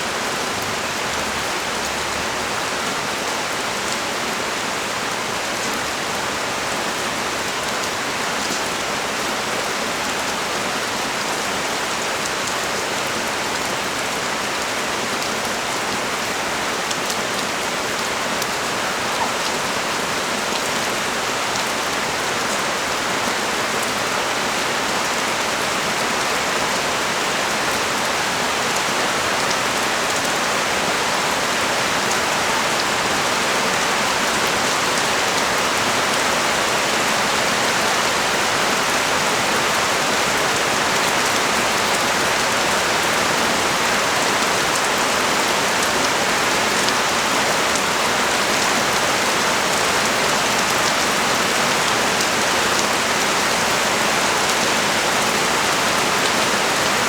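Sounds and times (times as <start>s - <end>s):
heavy rain pouring on street: 0.0s - 57.0s.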